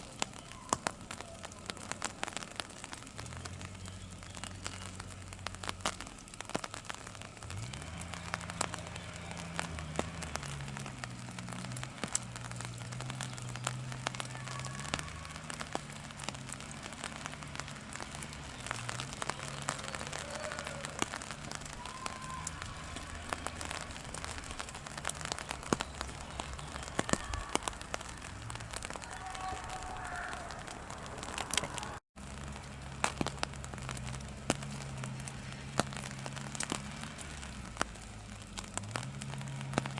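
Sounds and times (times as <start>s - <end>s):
rain pattering on umbrella: 0.0s - 39.9s.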